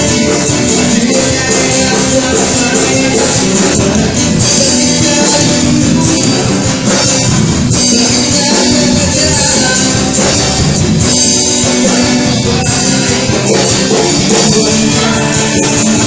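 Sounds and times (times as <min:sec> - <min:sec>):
bass guitar: 0:00.0 - 0:16.0
drum kit: 0:00.0 - 0:16.0
electric guitar: 0:00.0 - 0:16.0
person singing: 0:00.0 - 0:16.0.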